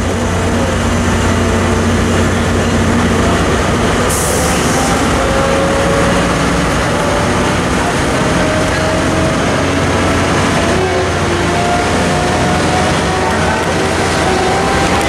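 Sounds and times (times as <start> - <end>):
diesel locomotive drone: 0.0 - 15.0.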